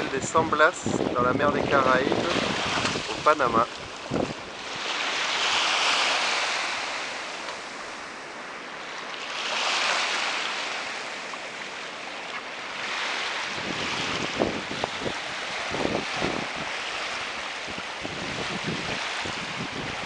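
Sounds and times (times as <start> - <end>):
wind on microphone: 0.0 - 8.2, 9.4 - 20.0
small waves washing onto beach: 0.0 - 20.0.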